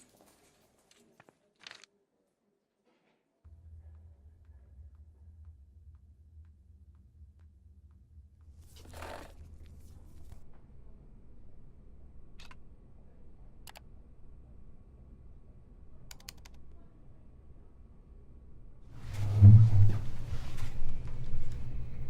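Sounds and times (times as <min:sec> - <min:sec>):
low room hum: 0:03.4 - 0:22.0.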